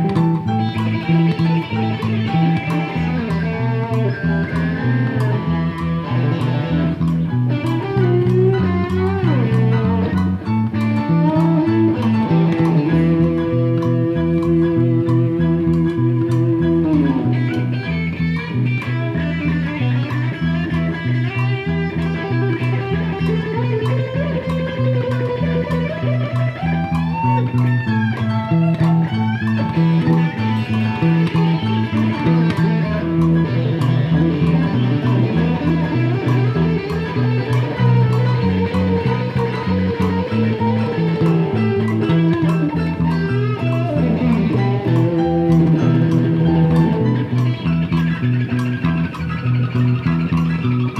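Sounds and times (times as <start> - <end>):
electric guitar lead: 0.0 - 50.9
walking bass line: 0.0 - 50.9.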